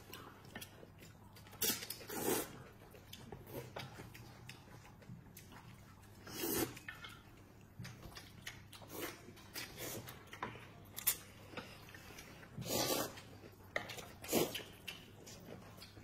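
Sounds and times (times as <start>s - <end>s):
noodles slurped and chewed: 0.0s - 16.0s.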